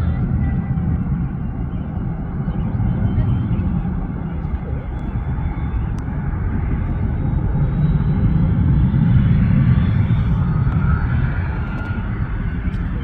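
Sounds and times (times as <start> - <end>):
aircraft engines rumbling: 0.0 - 13.0.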